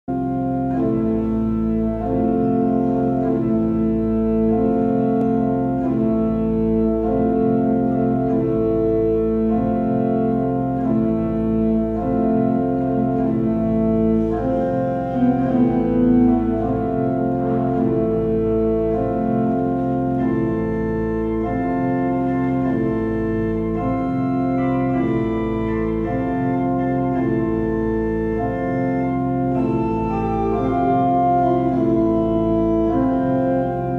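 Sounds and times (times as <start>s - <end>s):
pipe organ chords: 0.1s - 33.9s.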